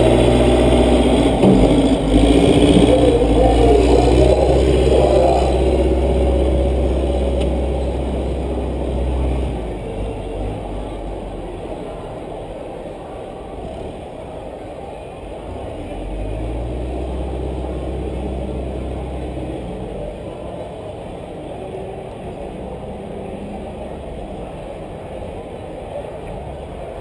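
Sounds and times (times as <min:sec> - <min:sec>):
race car engine rumbling: 0:00.0 - 0:27.0.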